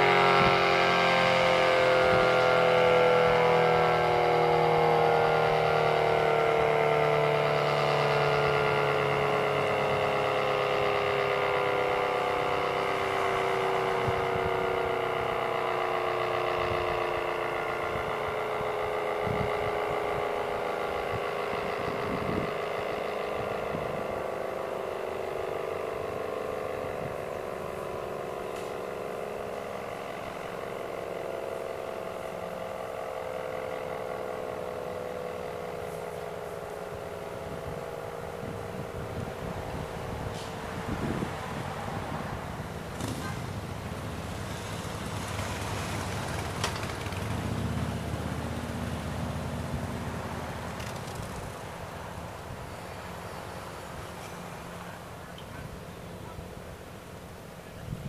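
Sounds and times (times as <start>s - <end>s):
warning siren winding down: 0.0s - 58.0s.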